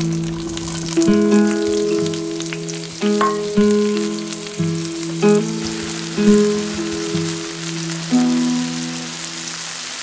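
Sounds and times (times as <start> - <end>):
berries sizzling in butter: 0.0 - 10.0
slow held-note music: 0.0 - 10.0.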